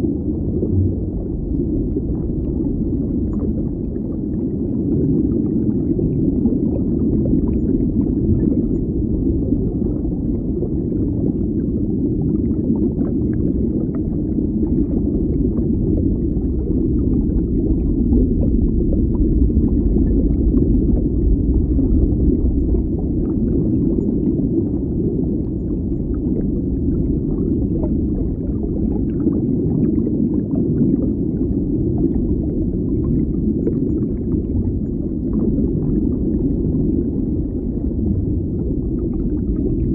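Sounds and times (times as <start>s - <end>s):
underwater water rumble: 0.0s - 39.9s.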